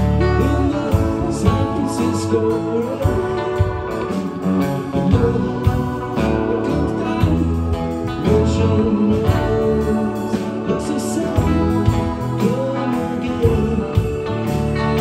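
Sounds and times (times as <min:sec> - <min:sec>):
bass guitar: 0:00.0 - 0:15.0
drums: 0:00.0 - 0:15.0
electric guitar: 0:00.0 - 0:15.0
keyboard: 0:00.0 - 0:15.0.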